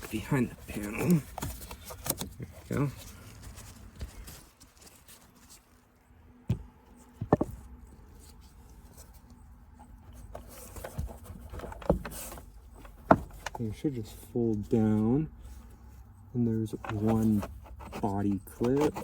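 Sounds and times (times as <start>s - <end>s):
light rubbing of plastic: 0.0s - 19.0s.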